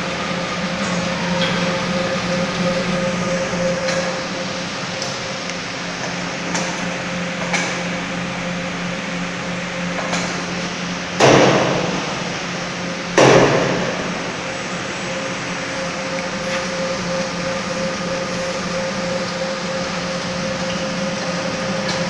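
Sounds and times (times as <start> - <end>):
loud bursts of noise: 0.0 - 22.0
machine humming: 0.0 - 22.0.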